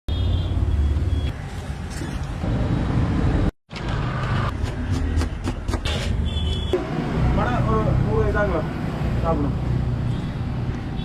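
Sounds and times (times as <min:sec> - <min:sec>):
rumble of passing vehicles: 0:00.1 - 0:11.0.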